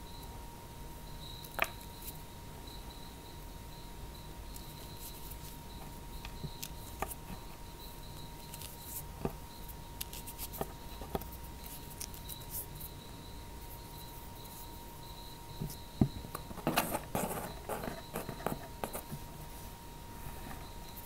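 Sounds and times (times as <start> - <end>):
faint pulsing high chirp: 0.0 - 21.0
faint steady tone: 0.0 - 21.0.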